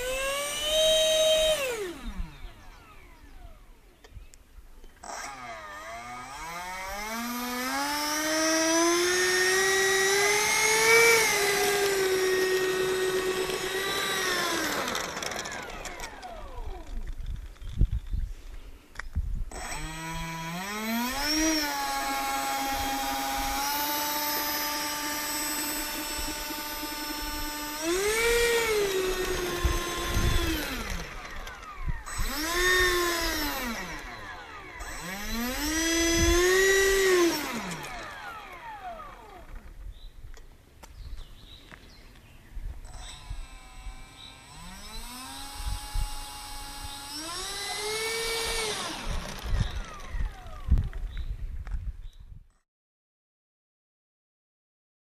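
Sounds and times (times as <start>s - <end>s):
electric ducted fan whining: 0.0s - 40.1s, 42.8s - 51.3s.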